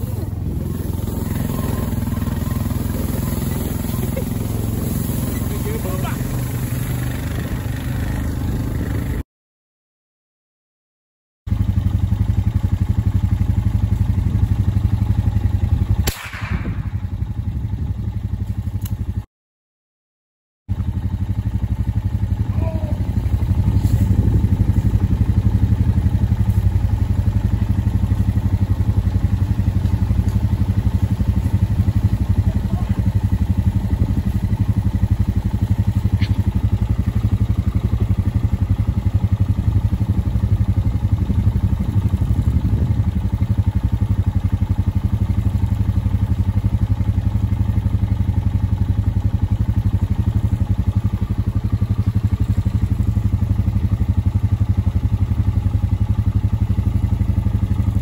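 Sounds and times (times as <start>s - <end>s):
quad engine running: 0.0s - 9.2s, 11.5s - 19.3s, 20.7s - 58.0s.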